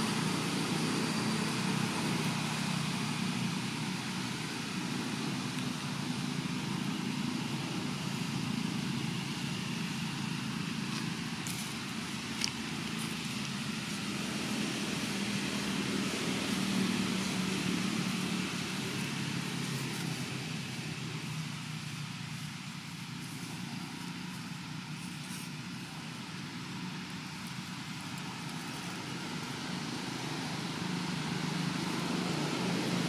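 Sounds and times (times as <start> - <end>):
distant traffic rumble: 0.0 - 33.0
outdoor ambience: 0.0 - 33.0.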